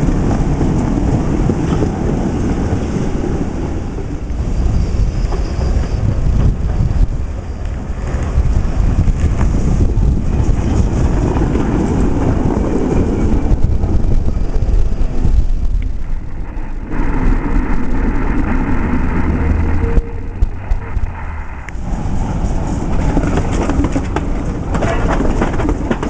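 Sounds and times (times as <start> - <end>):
tram wheels rumbling on rails: 0.0 - 26.0
wind buffeting microphone: 0.0 - 26.0.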